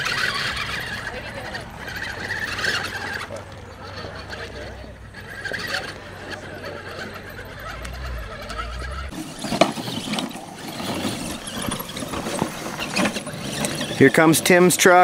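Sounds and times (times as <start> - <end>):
toy truck motor whining: 0.0 - 15.0
tyres scrabbling on loose dirt: 0.0 - 15.0.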